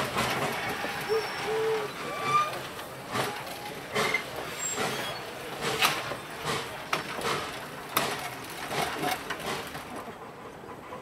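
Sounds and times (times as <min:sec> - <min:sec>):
train wheels clanking over rail joints: 0:00.0 - 0:11.0.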